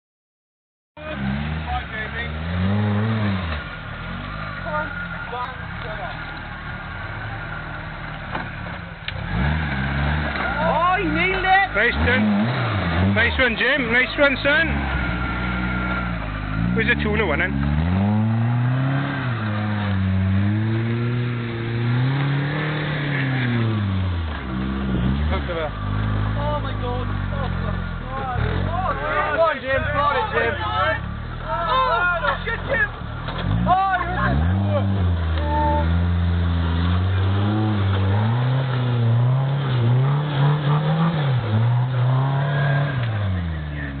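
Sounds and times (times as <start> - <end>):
buggy engine revving: 1.0 - 44.0.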